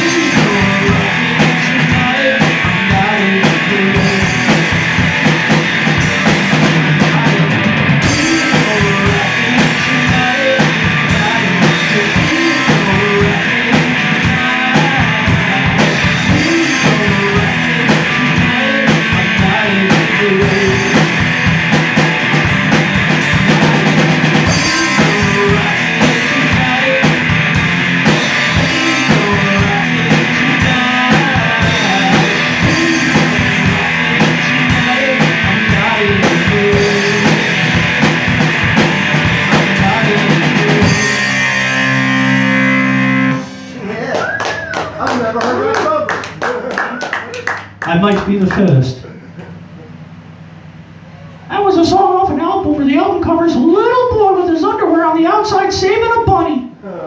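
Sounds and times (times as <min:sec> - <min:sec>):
drum kit beat: 0:00.0 - 0:48.8
electric guitar: 0:00.0 - 0:49.8.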